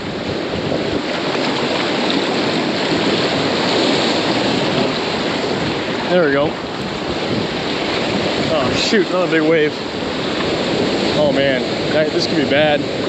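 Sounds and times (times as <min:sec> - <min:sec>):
ocean surf washing ashore: 0:00.0 - 0:13.0.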